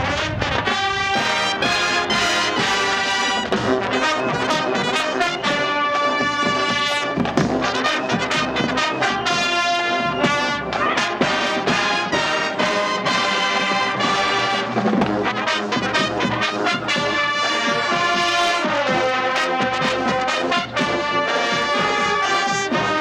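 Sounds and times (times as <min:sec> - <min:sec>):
drum strokes: 0:00.0 - 0:23.0
marching band brass music: 0:00.0 - 0:23.0.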